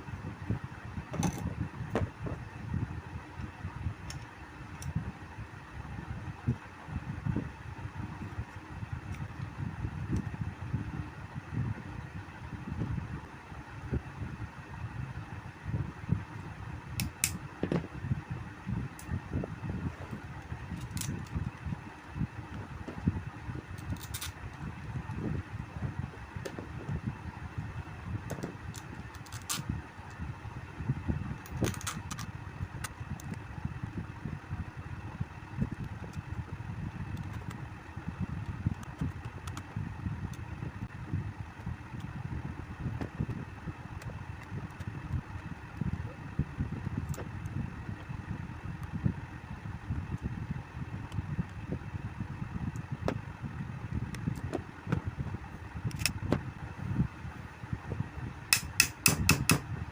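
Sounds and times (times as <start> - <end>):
electric fan humming: 0.0 - 59.9.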